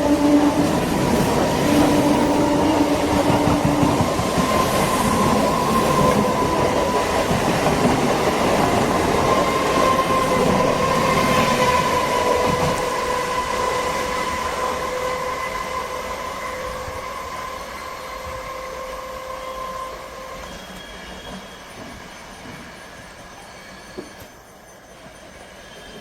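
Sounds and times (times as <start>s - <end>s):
train high whine: 0.0s - 26.0s
train wheels rumbling on rails: 0.0s - 26.0s.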